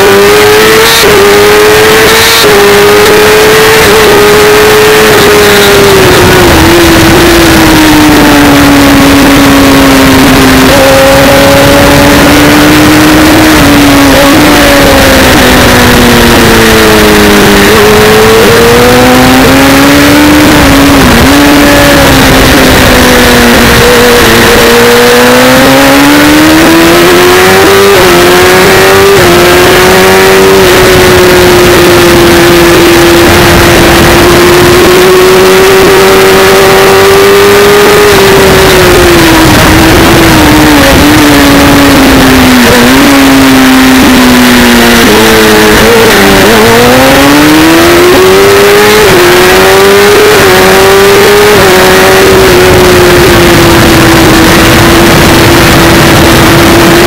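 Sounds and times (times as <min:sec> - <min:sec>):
motorcycle engine at speed: 0:00.0 - 0:57.0
wind noise: 0:00.0 - 0:57.0.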